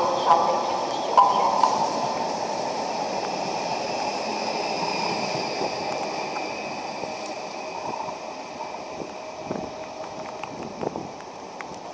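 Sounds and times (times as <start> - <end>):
electric train pulling away: 0.0 - 11.6.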